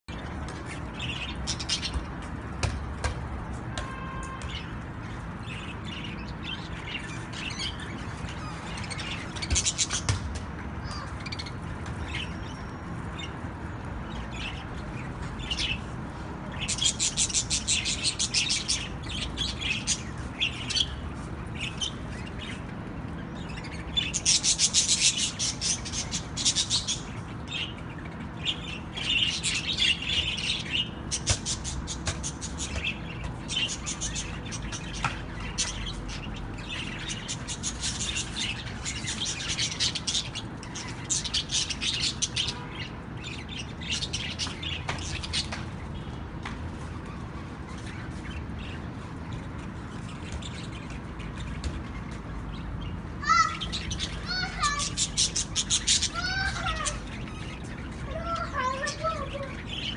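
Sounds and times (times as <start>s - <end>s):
cage birds chirping and trilling: 0.0s - 59.9s.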